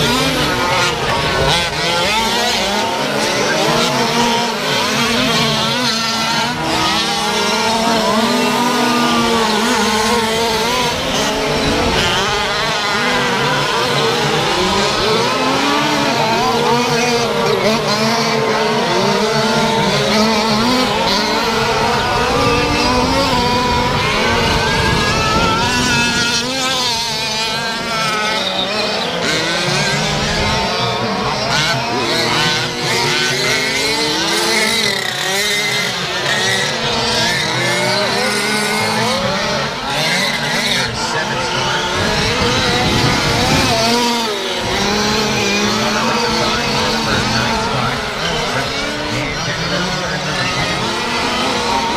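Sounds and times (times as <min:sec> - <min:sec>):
small two-stroke engines revving: 0:00.0 - 0:51.9.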